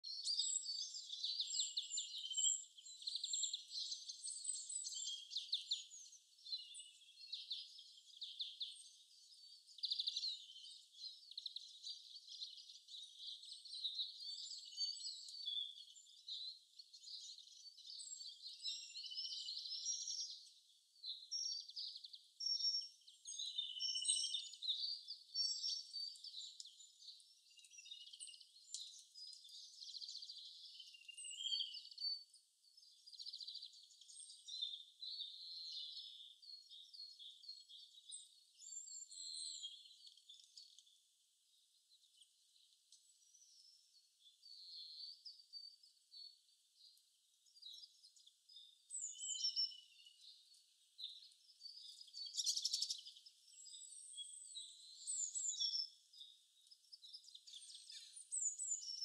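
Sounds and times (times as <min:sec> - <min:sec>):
small songbirds chirping and trilling: 0:00.0 - 0:59.0.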